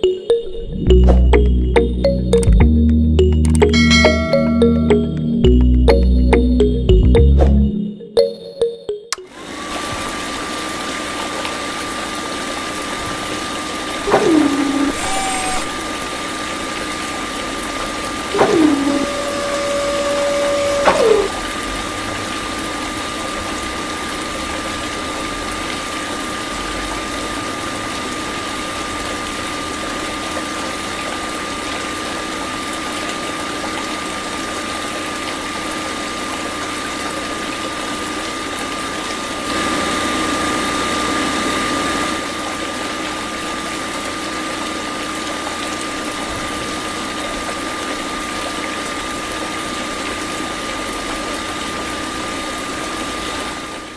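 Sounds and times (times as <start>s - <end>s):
water pump motor whine: 9.4s - 53.9s.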